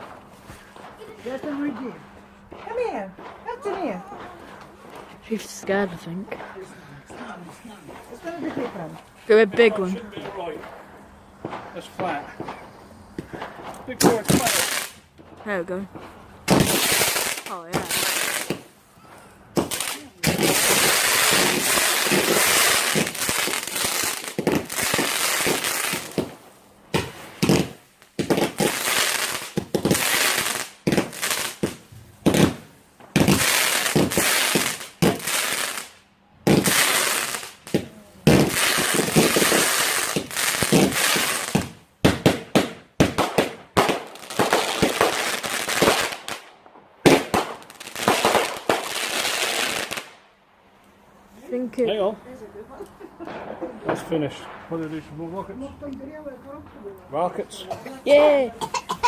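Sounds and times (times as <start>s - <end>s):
firework barrage crackling and banging: 0.0s - 18.8s, 19.5s - 50.2s, 53.1s - 57.7s.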